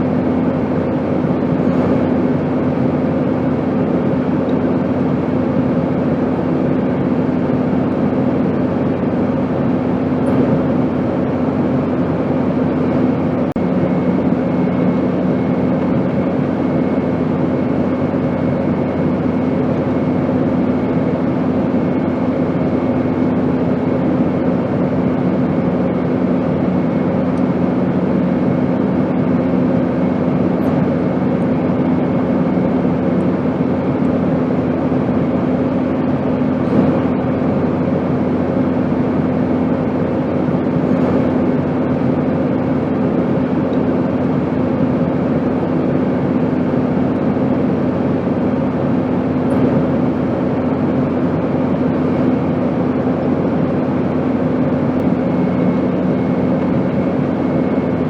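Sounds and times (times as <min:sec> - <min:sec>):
airplane roar: 0:00.0 - 0:58.0.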